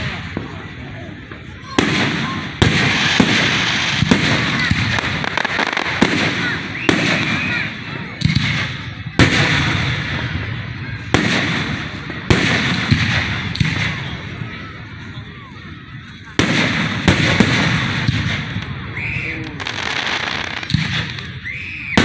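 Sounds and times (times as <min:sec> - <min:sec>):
fireworks bursting with crackle: 0:00.0 - 0:22.0.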